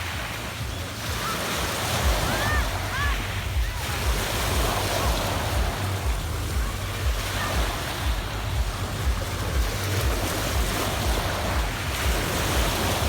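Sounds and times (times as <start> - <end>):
waves on a pebble beach: 0.0 - 13.0
wind rumbling on microphone: 0.0 - 13.0.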